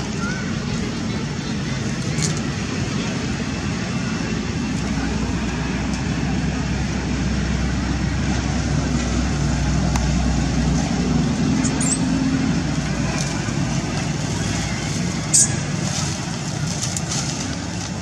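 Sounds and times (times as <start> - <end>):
road traffic hiss: 0.0 - 18.0
vehicle passing rumble: 0.0 - 18.0.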